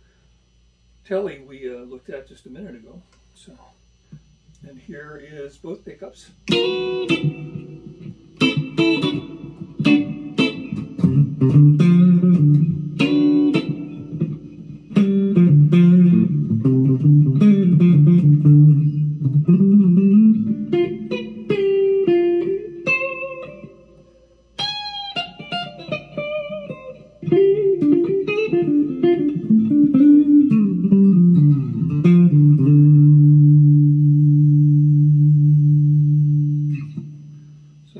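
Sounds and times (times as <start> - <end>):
electric guitar through amp: 5.4 - 37.9.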